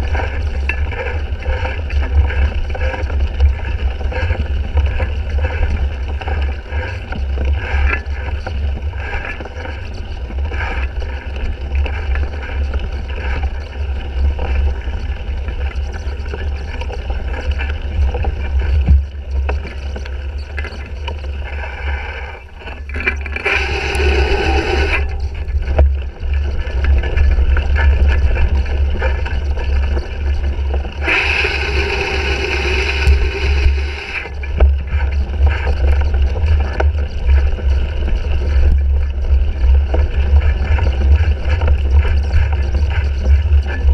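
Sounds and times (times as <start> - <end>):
bike rattling over rough ground: 0.0 - 43.9.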